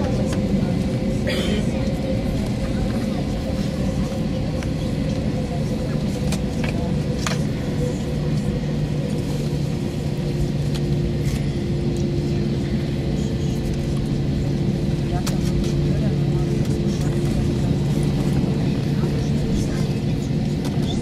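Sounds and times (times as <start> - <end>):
jet cabin rumble: 0.0 - 21.0.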